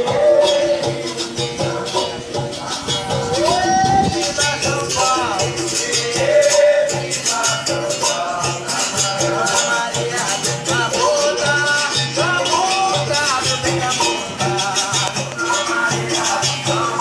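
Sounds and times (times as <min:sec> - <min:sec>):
berimbau rhythm: 0:00.0 - 0:17.0
shaker rattle: 0:00.0 - 0:17.0.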